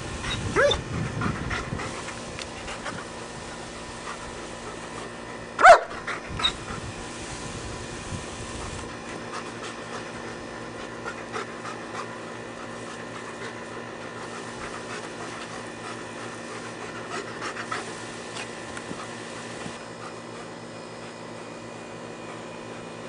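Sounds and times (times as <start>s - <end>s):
dog panting: 0.9s - 6.9s, 8.6s - 21.3s.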